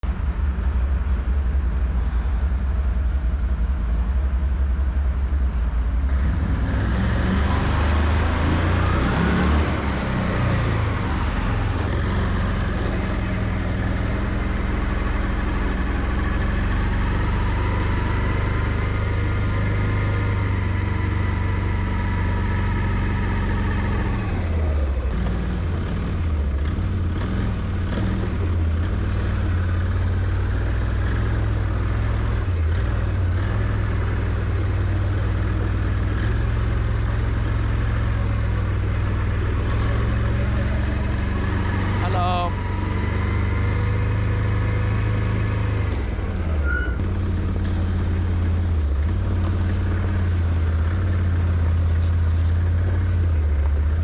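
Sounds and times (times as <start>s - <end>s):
atv engine revving: 6.0s - 54.0s.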